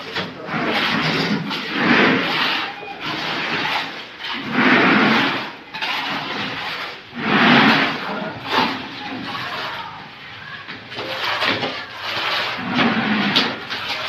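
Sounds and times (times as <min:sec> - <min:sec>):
tools scraping wet concrete: 0:00.0 - 0:14.0.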